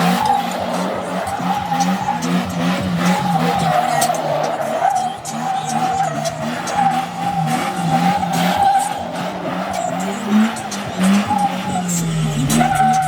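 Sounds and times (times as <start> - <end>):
car engine revving high: 0.0 - 13.0
tires squealing: 0.0 - 13.0.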